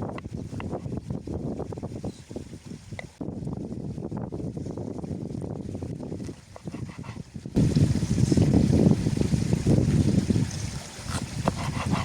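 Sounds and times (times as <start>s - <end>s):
running water: 0.0s - 12.0s
wind buffeting microphone: 0.0s - 12.0s.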